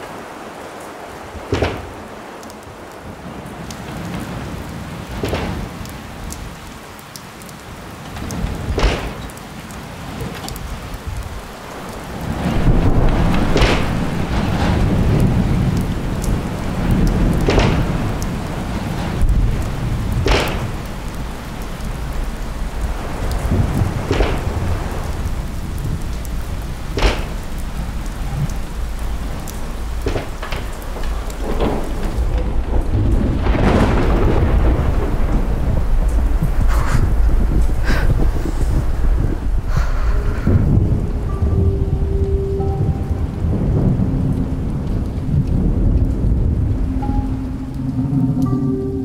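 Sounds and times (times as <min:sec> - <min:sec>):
heavy rain: 0:00.0 - 0:49.0
thunder cracks: 0:01.2 - 0:06.8, 0:07.8 - 0:49.0
low thunder rumble: 0:07.6 - 0:49.0.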